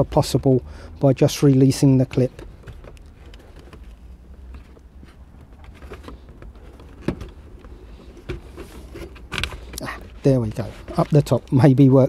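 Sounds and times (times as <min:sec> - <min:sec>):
low steady rumble: 0:00.0 - 0:12.0
faint handling noises: 0:01.1 - 0:12.0.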